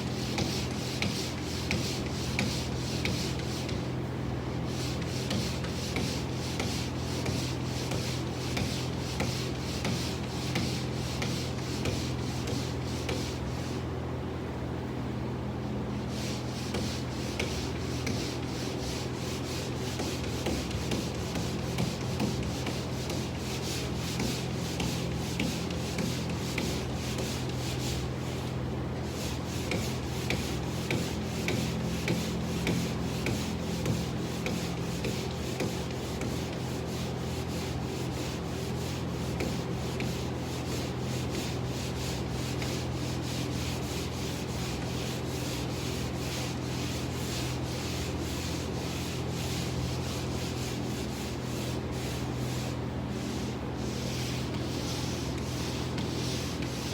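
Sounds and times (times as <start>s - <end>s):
sandpaper scraping drywall: 0.0s - 13.9s, 15.9s - 56.9s.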